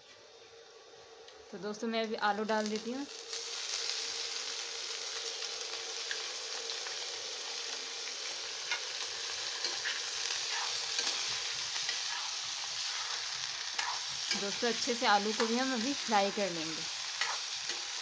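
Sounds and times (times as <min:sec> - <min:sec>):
potatoes sizzling in hot oil: 0:01.7 - 0:18.0.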